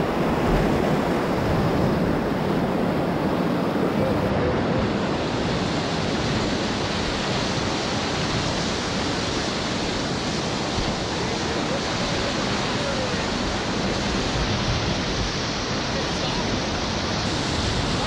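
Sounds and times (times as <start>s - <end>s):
whitewater rapids rushing: 0.0s - 18.0s.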